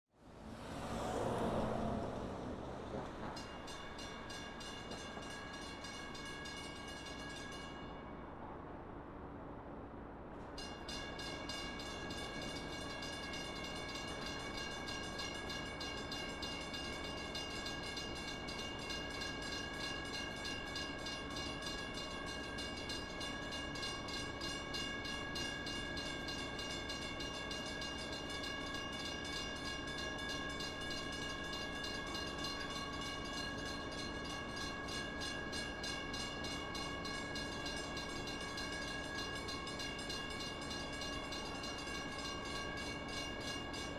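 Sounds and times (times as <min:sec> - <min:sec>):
train bell ringing: 0:00.4 - 0:08.4, 0:10.5 - 0:43.9.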